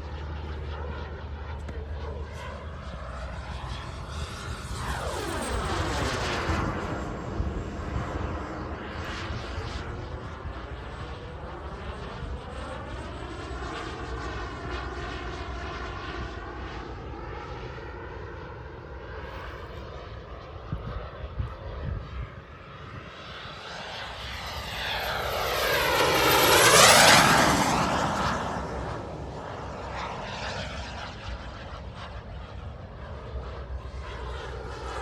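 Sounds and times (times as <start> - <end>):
jet turbine whine: 0.0 - 35.0.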